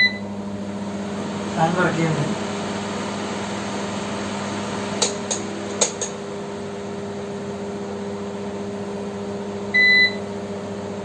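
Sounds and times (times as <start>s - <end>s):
fan and power supply humming: 0.0s - 11.0s.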